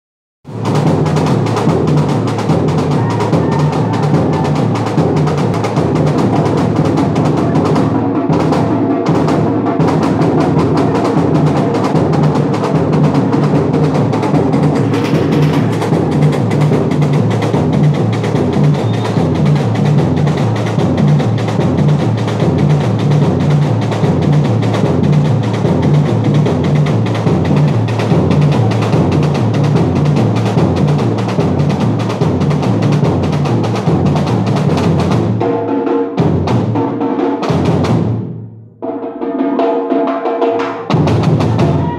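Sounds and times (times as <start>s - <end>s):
samba drum ensemble: 0.5s - 41.9s
low drums pulsing: 0.6s - 35.4s.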